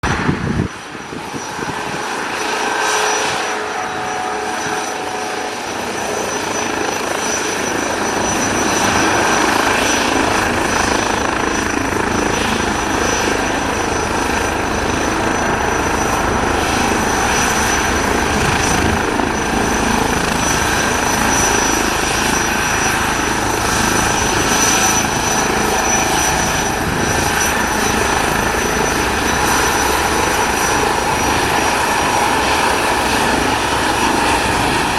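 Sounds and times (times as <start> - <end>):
helicopter rotor noise: 0.0 - 34.9
helicopter turbine whine: 0.0 - 34.9.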